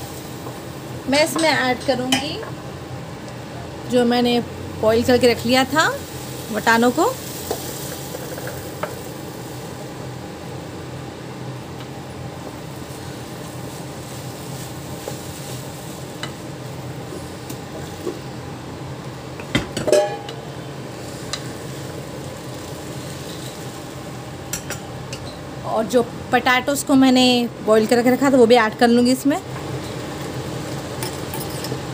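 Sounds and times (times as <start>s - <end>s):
low sizzle in a pan: 0.0s - 31.9s.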